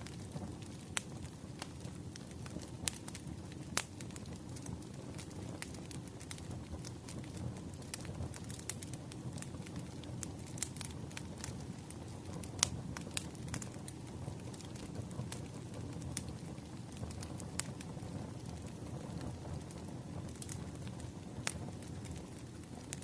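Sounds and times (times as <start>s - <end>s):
crackling fire: 0.0s - 23.0s.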